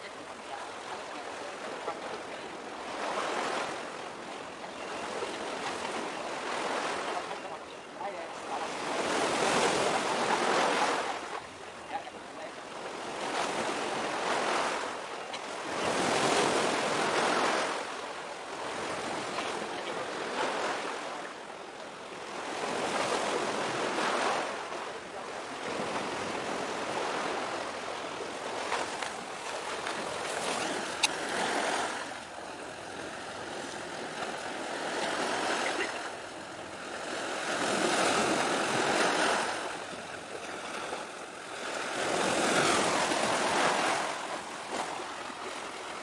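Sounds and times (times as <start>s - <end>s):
sea waves washing against breakwater: 0.0s - 46.0s.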